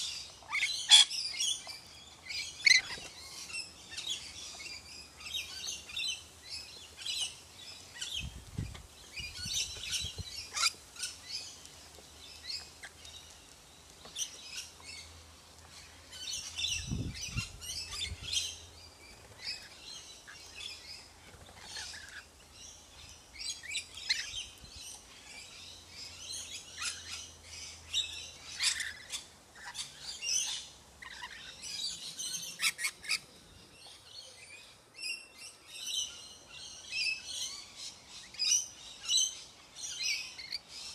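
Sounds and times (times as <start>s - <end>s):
lorikeets chattering: 0.0s - 11.7s, 19.4s - 40.9s.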